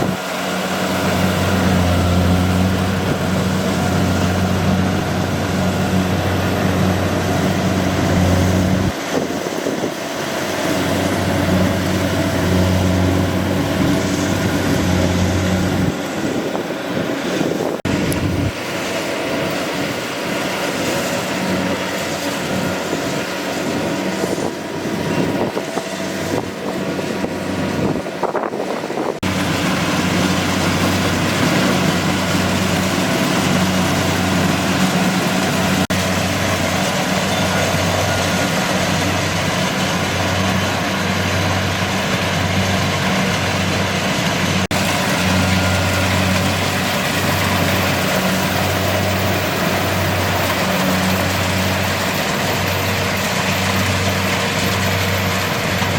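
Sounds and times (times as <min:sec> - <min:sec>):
combine harvester droning: 0:00.0 - 0:55.9.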